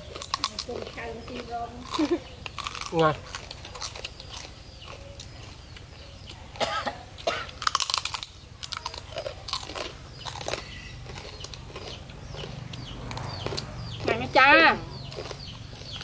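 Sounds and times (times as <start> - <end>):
people chewing and crunching: 0.0 - 16.0.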